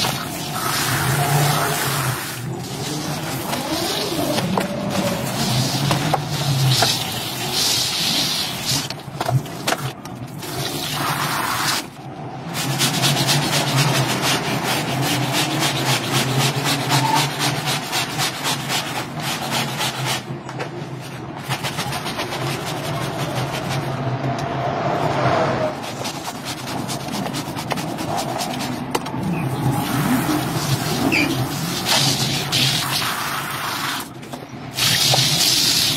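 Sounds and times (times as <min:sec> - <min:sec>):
water noise: 0:00.0 - 0:19.8, 0:21.4 - 0:35.9
rapid scrubbing: 0:00.0 - 0:20.4, 0:21.0 - 0:24.1, 0:25.7 - 0:35.9.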